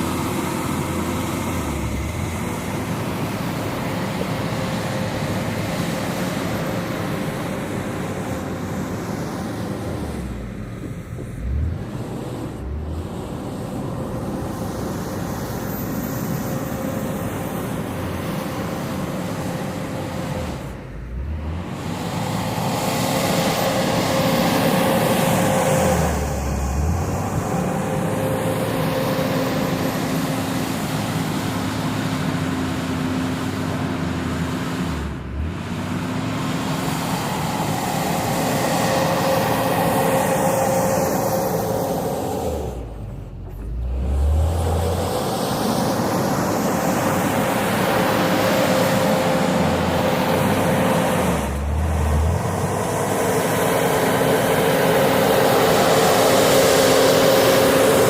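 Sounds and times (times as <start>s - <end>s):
hydraulic transmission whine: 0.0s - 58.0s
wheel loader engine working: 0.0s - 58.0s.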